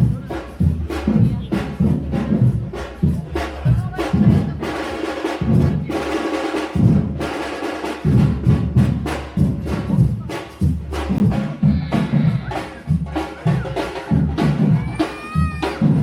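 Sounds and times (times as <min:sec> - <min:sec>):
drums and percussion rhythm: 0:00.0 - 0:16.0.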